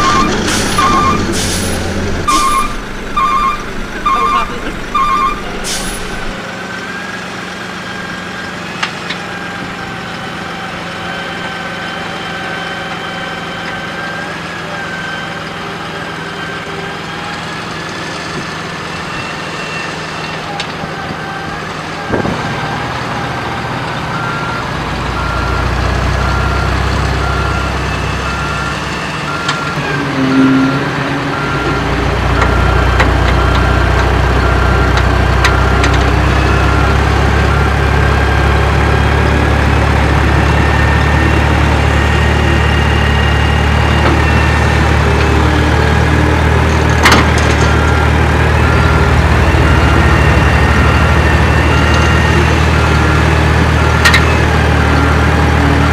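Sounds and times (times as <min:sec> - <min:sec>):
heavy vehicle engine running: 0:00.0 - 0:55.9
reversing beeper: 0:00.0 - 0:55.9.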